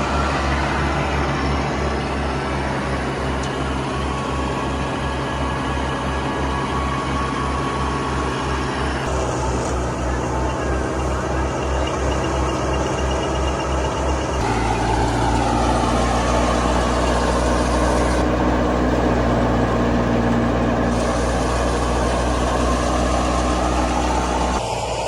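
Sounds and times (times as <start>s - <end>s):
thresher drum whirring: 0.0s - 25.0s
tractor engine running under load: 0.0s - 25.0s.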